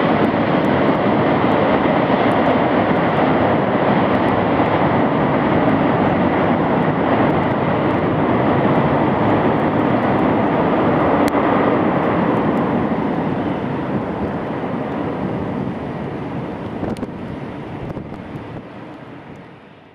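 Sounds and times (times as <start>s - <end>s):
jet engines loud rush: 0.0s - 19.9s.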